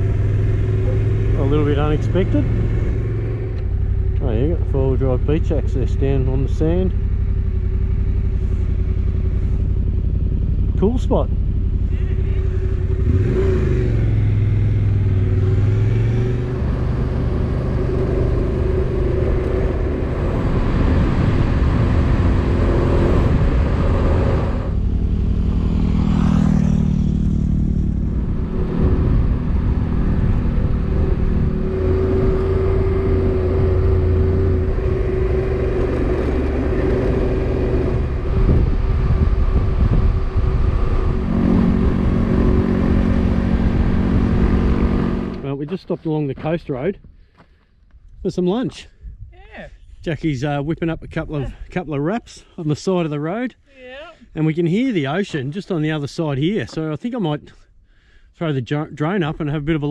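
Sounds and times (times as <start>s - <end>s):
motorcycle engines running: 0.0s - 48.2s.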